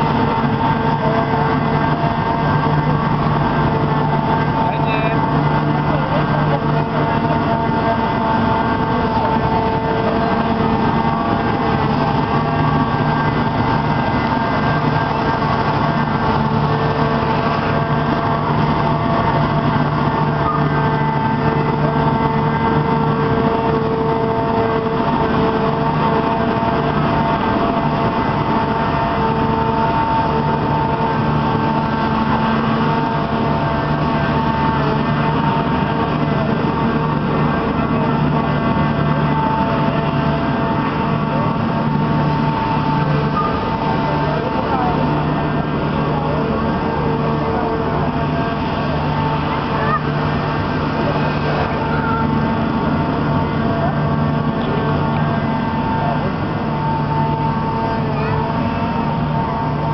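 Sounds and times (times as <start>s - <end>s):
diesel engine and hydraulics drone: 0.0s - 59.9s
held humming tones: 0.0s - 59.9s.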